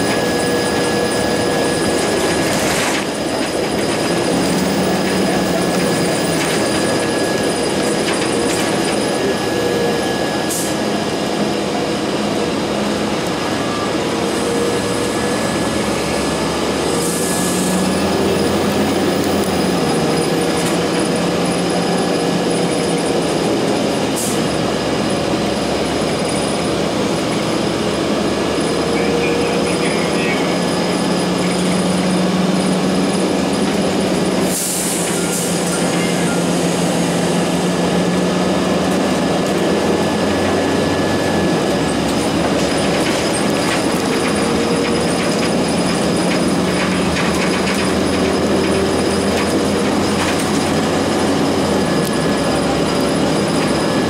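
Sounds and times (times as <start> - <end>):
bus engine droning: 0.0 - 54.0
road and tyre noise: 0.0 - 54.0.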